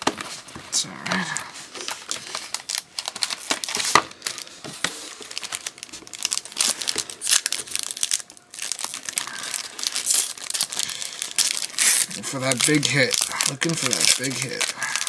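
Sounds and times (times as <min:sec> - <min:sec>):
wrapper crinkling and tearing: 0:00.0 - 0:15.0.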